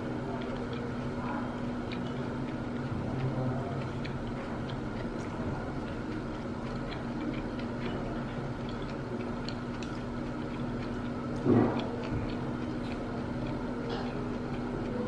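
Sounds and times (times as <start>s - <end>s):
room hum: 0.0s - 15.0s
light clicks and ticks: 0.3s - 15.0s.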